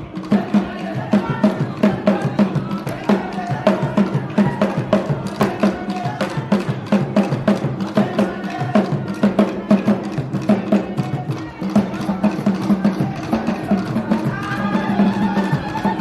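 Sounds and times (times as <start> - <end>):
music with brisk percussion: 0.0 - 16.0.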